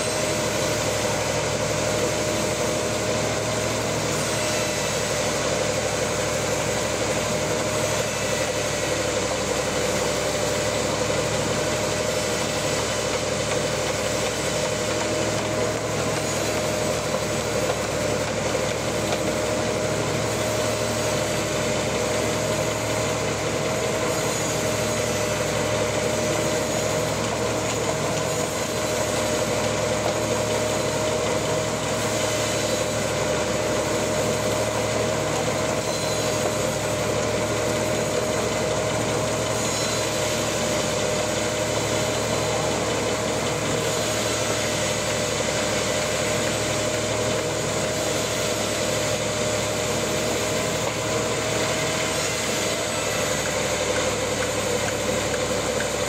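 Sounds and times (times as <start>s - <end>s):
band sawmill cutting log: 0.0s - 56.0s.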